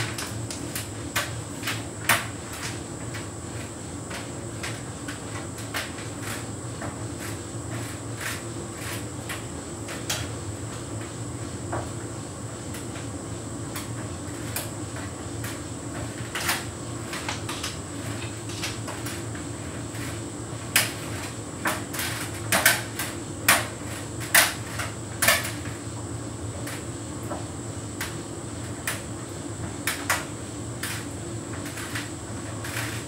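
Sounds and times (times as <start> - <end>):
tumble dryer humming: 0.0 - 33.0.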